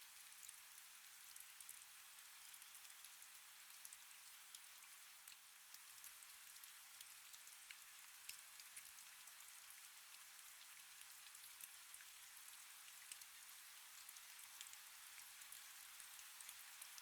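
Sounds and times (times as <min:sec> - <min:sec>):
rain drops pattering: 0:00.0 - 0:17.0.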